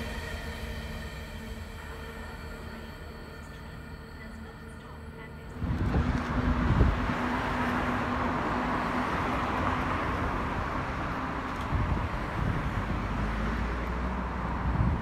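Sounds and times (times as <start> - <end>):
freight train rumbling: 0.0 - 15.0
locomotive engine drone: 0.0 - 15.0.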